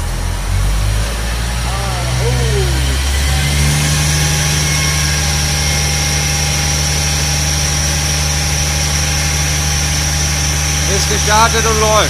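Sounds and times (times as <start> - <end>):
diesel engine running: 0.0 - 12.0
high whine: 0.0 - 12.0.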